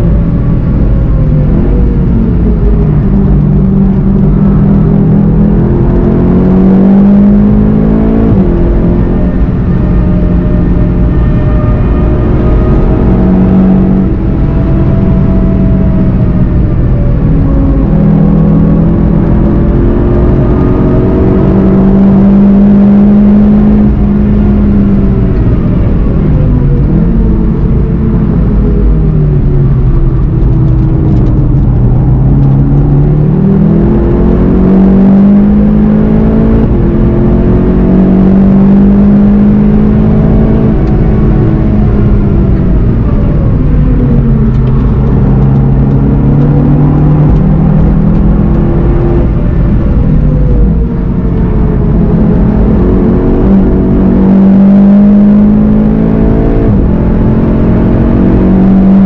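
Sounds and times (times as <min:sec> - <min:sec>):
car engine revving: 0:00.0 - 0:59.0
road and tyre rumble: 0:00.0 - 0:59.0.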